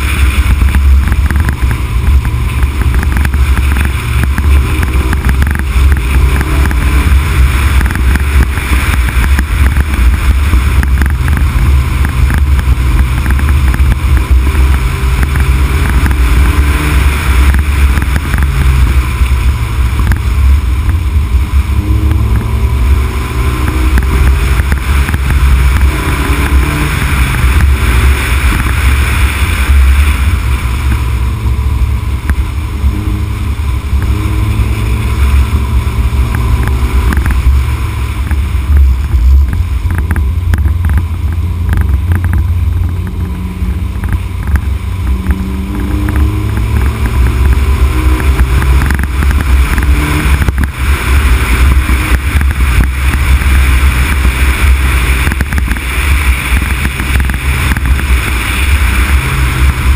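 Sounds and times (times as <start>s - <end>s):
car engine revving: 0.0s - 59.9s
tyre and road noise: 0.0s - 59.9s.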